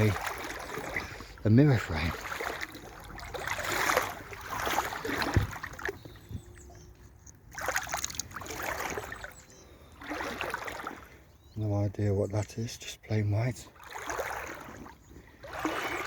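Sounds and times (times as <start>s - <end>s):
boots wading through water: 0.0s - 6.7s, 7.3s - 11.7s, 13.4s - 16.0s
water sloshing and splashing: 0.0s - 16.0s.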